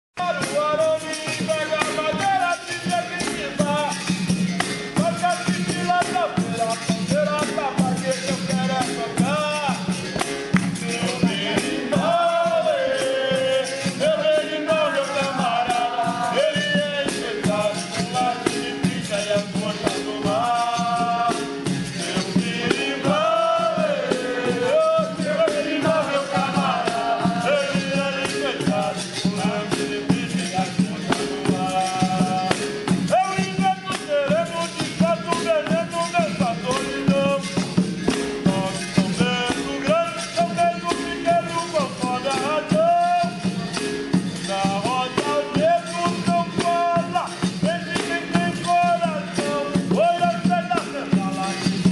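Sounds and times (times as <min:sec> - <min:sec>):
percussion driving beat: 0:00.2 - 0:51.9
tambourine jingling: 0:00.2 - 0:51.9
voices singing: 0:00.3 - 0:51.9.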